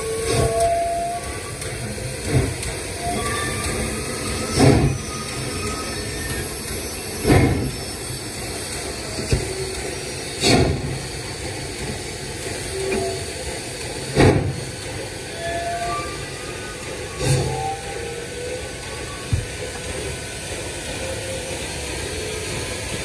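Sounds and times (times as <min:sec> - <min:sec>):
steam hissing: 0:00.0 - 0:23.0
steam locomotive exhaust chuff: 0:00.0 - 0:23.0.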